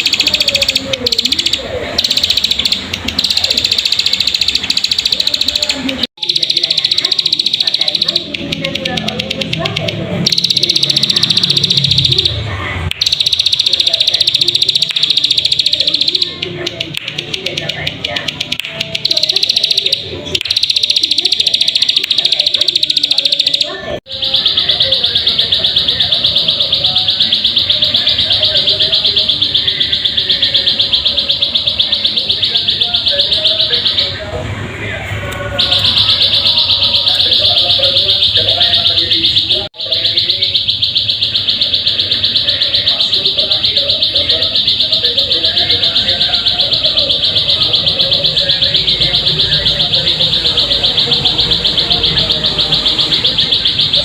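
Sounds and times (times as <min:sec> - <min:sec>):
bird trilling: 0:00.0 - 0:34.2, 0:35.6 - 0:54.0.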